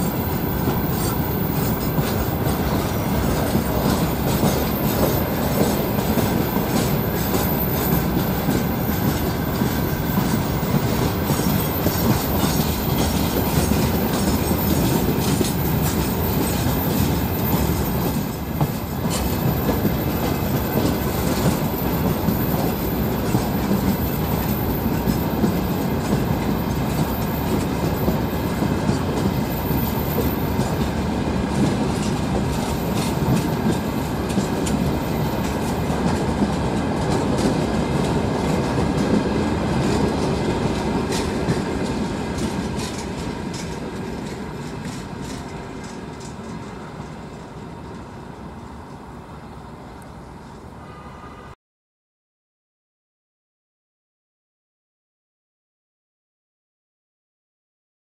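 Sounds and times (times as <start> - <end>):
train wheels clattering over rail joints: 0.0 - 48.1.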